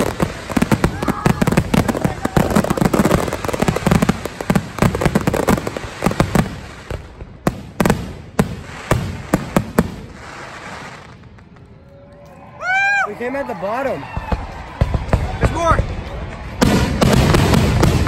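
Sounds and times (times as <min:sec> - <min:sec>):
fireworks bangs and crackling: 0:00.0 - 0:11.9, 0:13.7 - 0:18.0.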